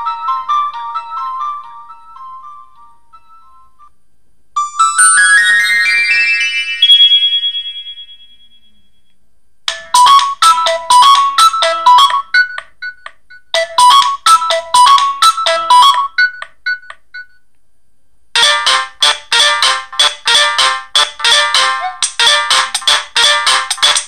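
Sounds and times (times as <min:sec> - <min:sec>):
phone ringtone melody: 0:00.0 - 0:03.8, 0:04.6 - 0:08.6, 0:09.7 - 0:17.3, 0:18.4 - 0:24.0.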